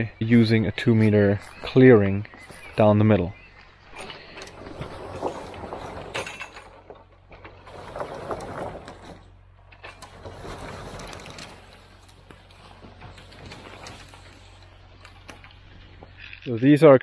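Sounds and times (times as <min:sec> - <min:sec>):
logs scraping forest floor: 0:01.0 - 0:17.0.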